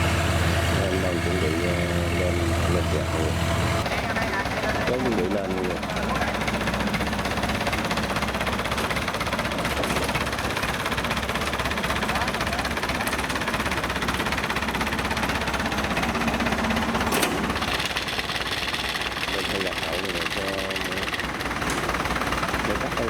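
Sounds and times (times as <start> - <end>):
diesel engine knocking: 0.0 - 23.0.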